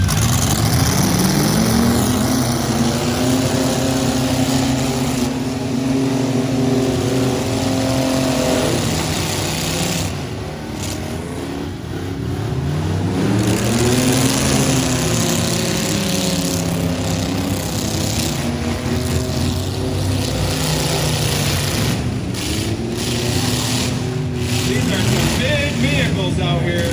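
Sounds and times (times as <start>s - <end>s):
truck engines revving: 0.0s - 26.9s.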